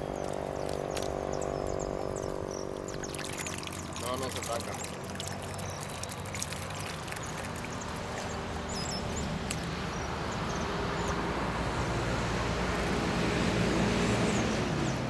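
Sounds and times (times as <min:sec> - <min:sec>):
low engine hum: 0:00.0 - 0:15.0
water splashing and sloshing: 0:00.0 - 0:15.0.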